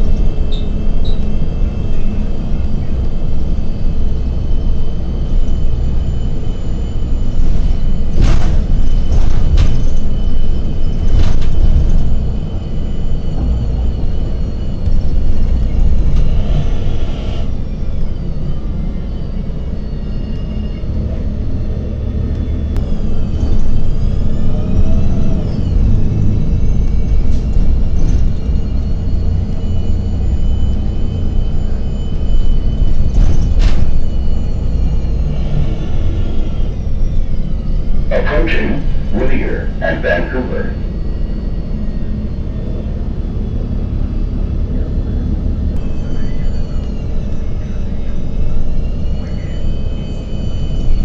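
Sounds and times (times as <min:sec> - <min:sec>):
bus engine rumble with whine: 0:00.0 - 0:51.0.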